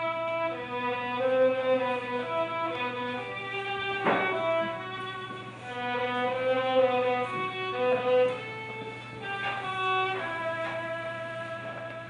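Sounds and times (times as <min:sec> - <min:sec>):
steady low hum: 0:00.0 - 0:12.0
violin playing long notes: 0:00.0 - 0:12.0.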